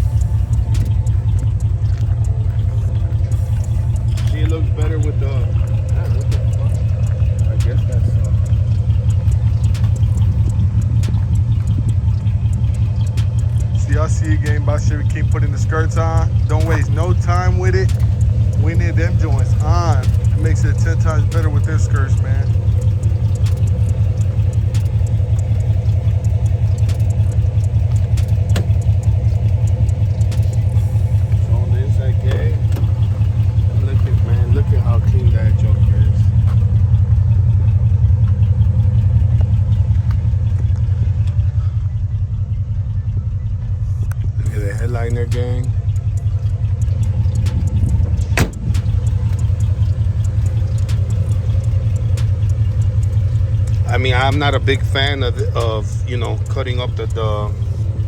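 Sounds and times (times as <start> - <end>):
light clicks and taps: 0.0 - 41.6, 44.0 - 58.0
car engine idling: 0.0 - 58.0.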